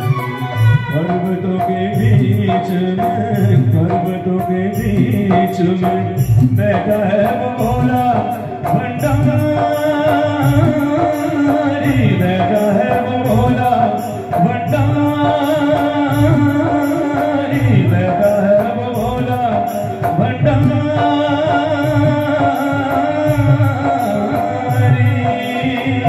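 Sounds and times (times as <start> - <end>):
devotional music over pa system: 0.0 - 26.0
held keyboard melody: 0.0 - 26.0
steady drum beat: 0.0 - 26.0.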